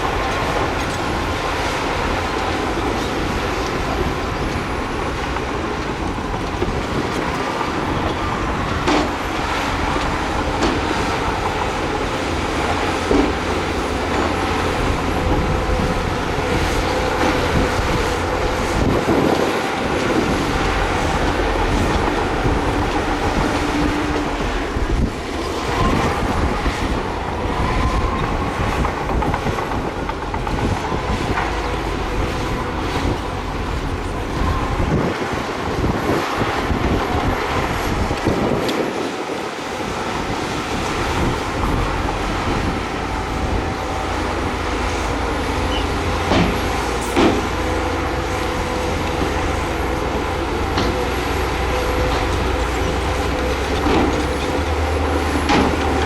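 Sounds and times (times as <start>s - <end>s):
bulldozer diesel engine: 0.0s - 56.0s
steel tracks clanking and squealing: 0.0s - 56.0s.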